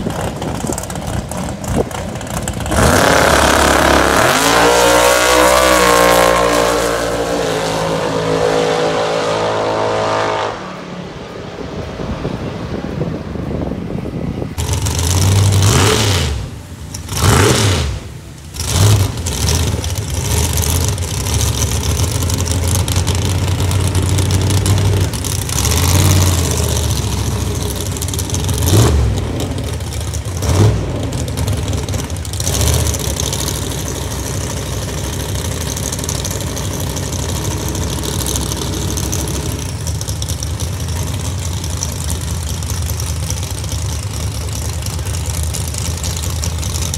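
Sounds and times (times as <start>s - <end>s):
engine idling with throttle blips: 0.0s - 46.9s
race car engine revving: 0.0s - 46.9s.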